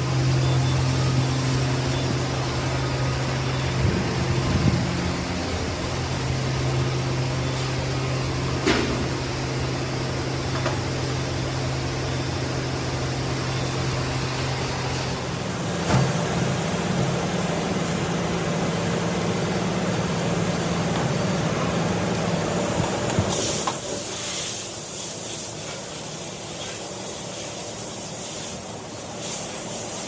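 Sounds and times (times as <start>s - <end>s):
workshop machinery humming: 0.0s - 30.0s.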